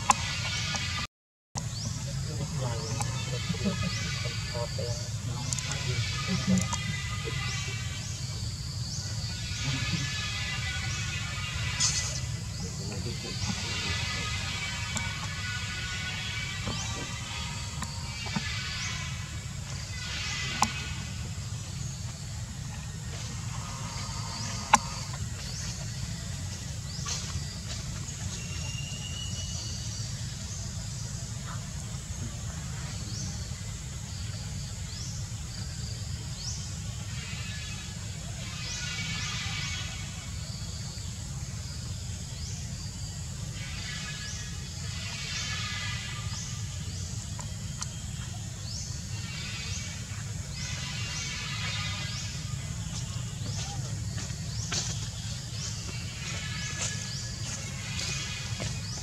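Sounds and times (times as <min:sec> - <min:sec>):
cicadas buzzing: 0:00.0 - 0:59.0
low rumble and hiss: 0:01.6 - 0:59.0.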